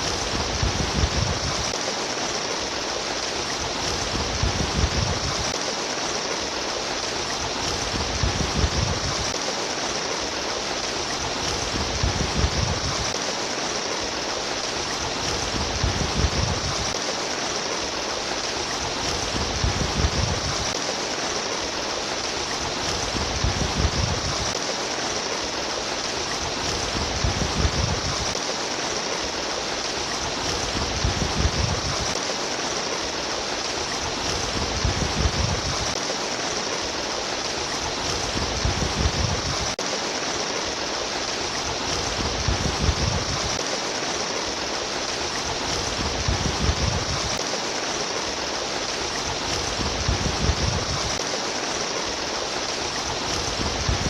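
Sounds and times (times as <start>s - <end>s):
water rushing in a stream: 0.0s - 54.0s.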